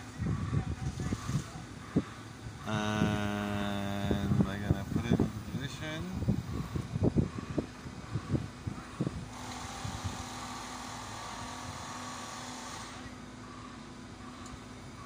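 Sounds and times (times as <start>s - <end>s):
machine engine and hydraulics: 0.0s - 15.0s
machine whine with hiss: 0.0s - 15.0s.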